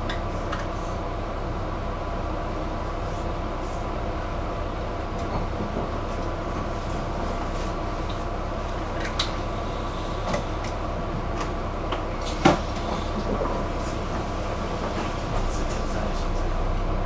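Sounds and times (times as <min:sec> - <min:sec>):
bus rumble from inside: 0:00.0 - 0:17.0.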